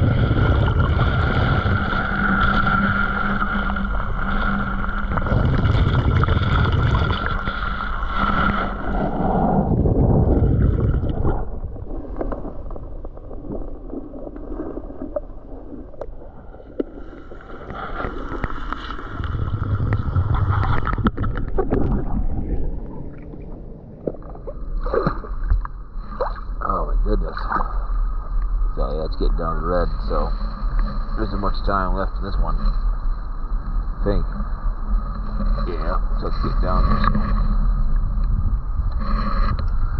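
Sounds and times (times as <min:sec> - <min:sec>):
steady humming tones: 0:00.0 - 0:39.9
underwater water rushing and gurgling: 0:00.0 - 0:39.9.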